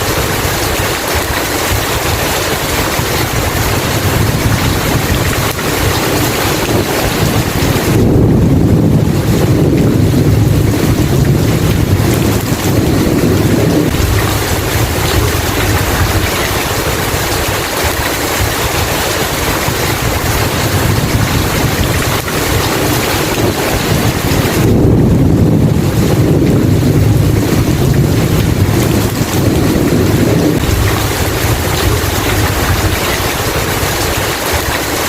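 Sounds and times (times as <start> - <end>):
heavy rain: 0.0 - 35.0
rolling thunder: 0.0 - 35.0.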